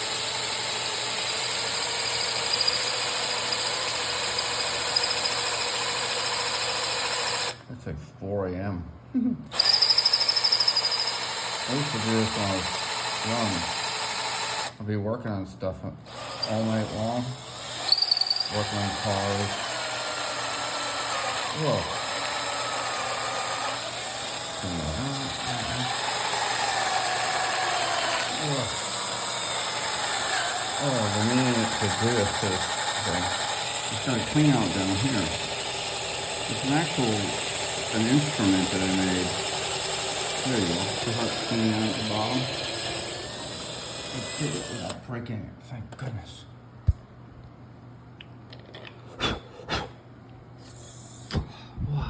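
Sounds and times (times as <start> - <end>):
electric drill boring into wood: 0.0 - 7.6, 9.5 - 14.7, 16.1 - 45.0.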